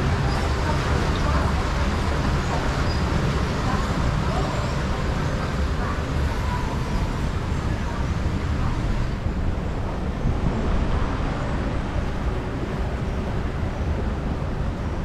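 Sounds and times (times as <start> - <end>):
water rushing in rapids: 0.0 - 15.0
wind rumble on microphone: 0.0 - 15.0.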